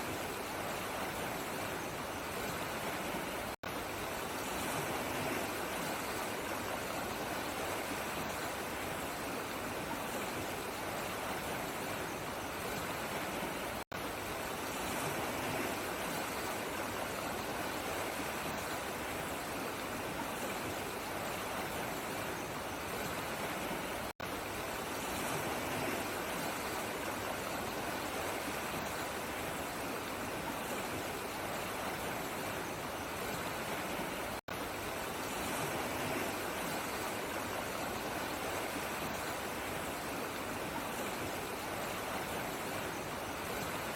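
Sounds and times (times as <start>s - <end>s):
flowing water rushing: 0.0s - 43.9s.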